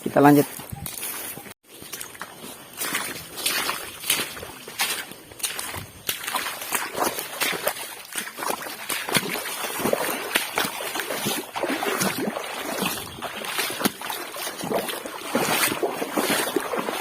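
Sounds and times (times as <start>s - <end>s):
footsteps wading through water: 0.5s - 17.0s.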